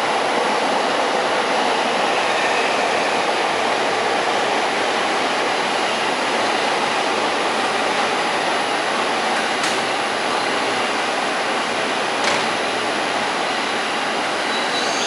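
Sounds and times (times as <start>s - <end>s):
electric train whooshing hum: 0.0s - 14.9s.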